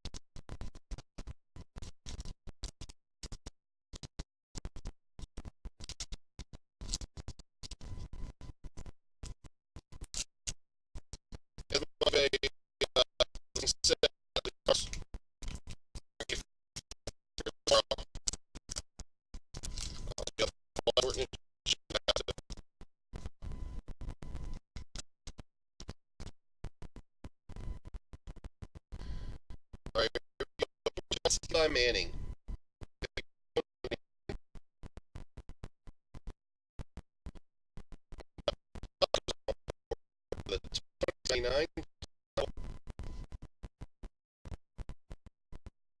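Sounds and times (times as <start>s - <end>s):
audio clicks and crackles: 0.0s - 32.1s, 32.8s - 45.8s.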